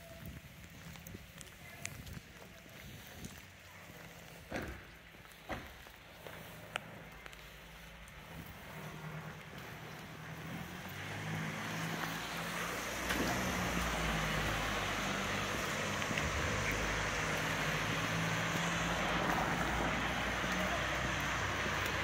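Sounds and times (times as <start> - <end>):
rain hissing on wet street: 0.0 - 22.0.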